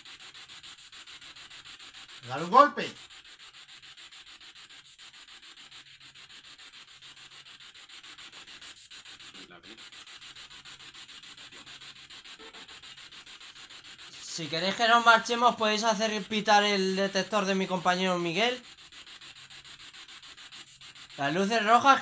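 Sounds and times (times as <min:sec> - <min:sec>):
pulsing hiss: 0:00.0 - 0:22.0.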